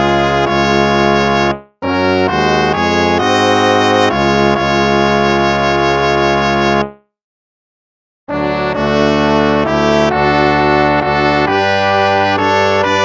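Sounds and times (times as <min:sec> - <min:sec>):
instrumental hymn with brass chords: 0:00.0 - 0:07.1, 0:08.3 - 0:13.0.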